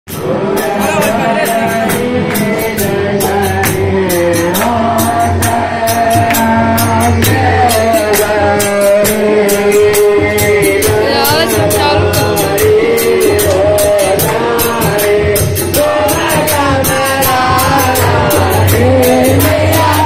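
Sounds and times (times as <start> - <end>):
hymn singing: 0.1 - 20.0
percussion beat: 0.1 - 20.0.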